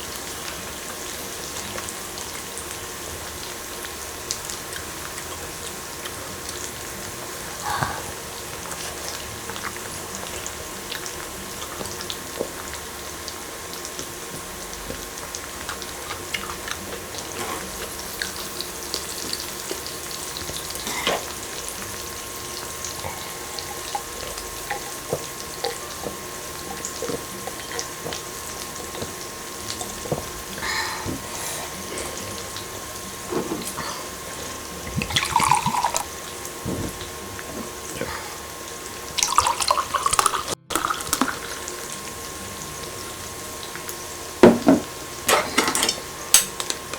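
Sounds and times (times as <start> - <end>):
tripe sizzling on a grill: 0.0 - 46.9.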